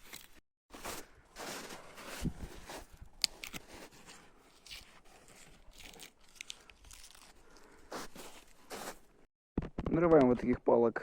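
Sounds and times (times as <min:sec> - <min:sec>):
twigs and forest litter crunching: 0:00.0 - 0:09.0.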